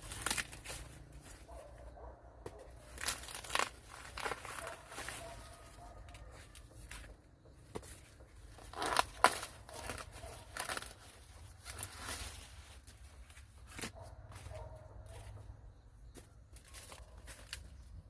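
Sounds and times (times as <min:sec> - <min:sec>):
dry plant material rustling: 0:00.0 - 0:01.9, 0:02.6 - 0:07.1, 0:07.7 - 0:15.4, 0:16.5 - 0:18.0.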